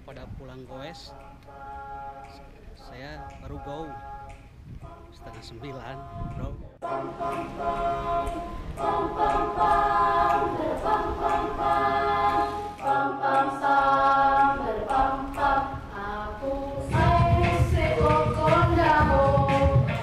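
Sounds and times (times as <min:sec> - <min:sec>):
choir singing a cappella: 0:01.0 - 0:20.0.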